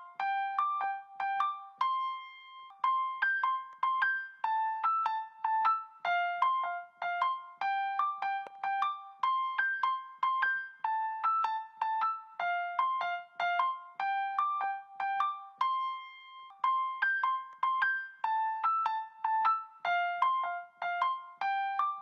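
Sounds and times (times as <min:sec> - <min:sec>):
simple piano melody: 0:00.0 - 0:22.0.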